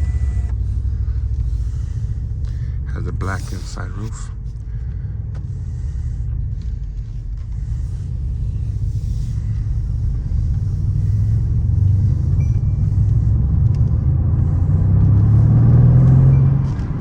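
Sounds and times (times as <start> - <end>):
car exhaust rumble: 0.0 - 17.0.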